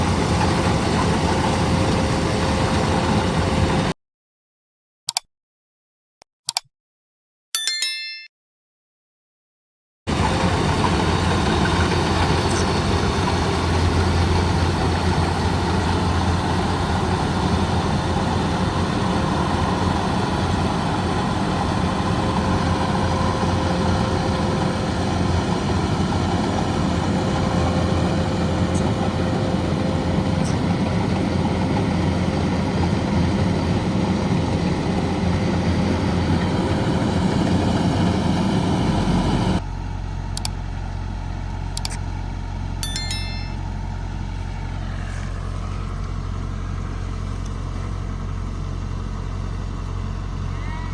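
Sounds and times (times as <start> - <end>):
combine harvester engine running: 0.0 - 3.9, 10.1 - 50.9.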